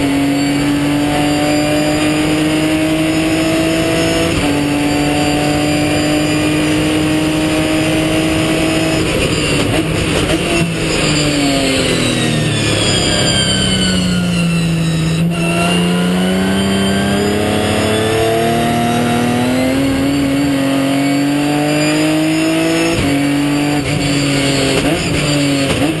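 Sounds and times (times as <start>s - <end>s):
gear change: 0.0s - 26.0s
race car engine accelerating: 0.0s - 26.0s.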